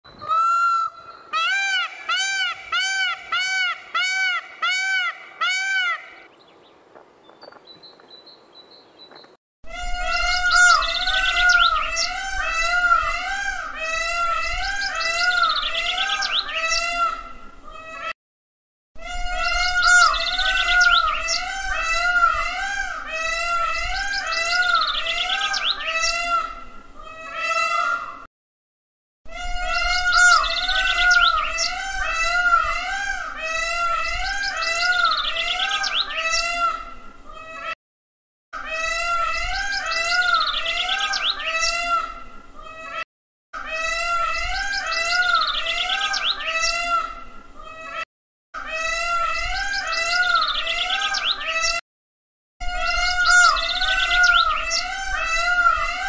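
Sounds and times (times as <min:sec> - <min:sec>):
peacock calling loudly: 0:00.1 - 0:06.3, 0:09.7 - 0:18.2, 0:19.0 - 0:28.3, 0:29.3 - 0:37.8, 0:38.6 - 0:43.0, 0:43.6 - 0:48.0, 0:48.6 - 0:51.8, 0:52.6 - 0:56.0.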